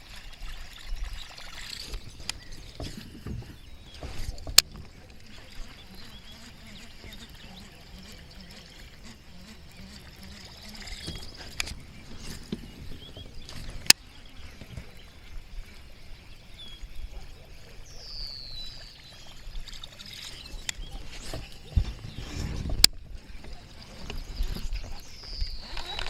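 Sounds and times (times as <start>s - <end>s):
water trickling and lapping: 0.0s - 26.0s.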